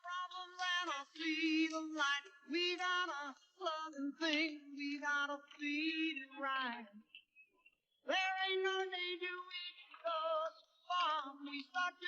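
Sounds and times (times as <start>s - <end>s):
woman singing with vibrato: 0.0s - 7.0s, 8.1s - 12.0s.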